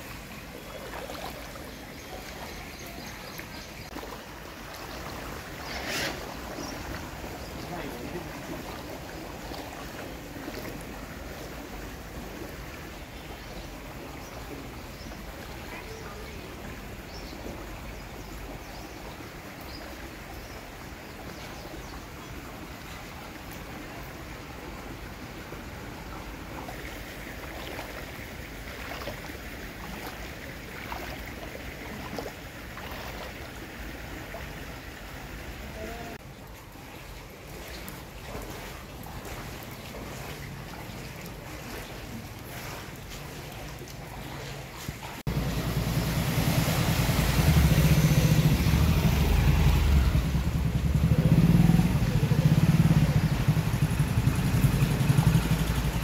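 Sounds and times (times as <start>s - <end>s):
floodwater lapping and sloshing: 0.0s - 56.0s
small splashes: 0.0s - 56.0s.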